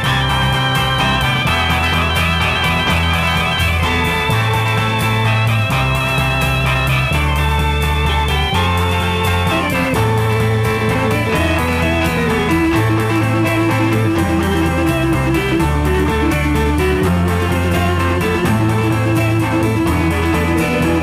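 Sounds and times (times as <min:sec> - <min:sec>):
bass notes: 0:00.0 - 0:21.0
electric guitar arpeggios: 0:00.0 - 0:21.0.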